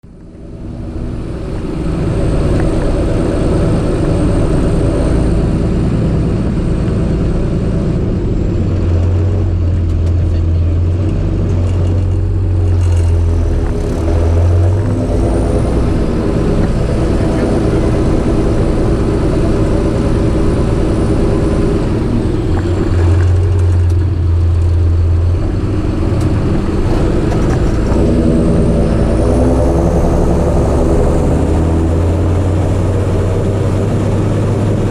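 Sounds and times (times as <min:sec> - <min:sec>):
tractor diesel engine droning: 0:00.0 - 0:34.9.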